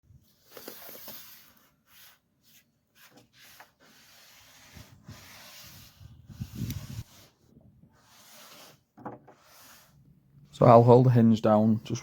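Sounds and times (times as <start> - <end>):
rubbing and scraping on wood: 0.3 - 12.0.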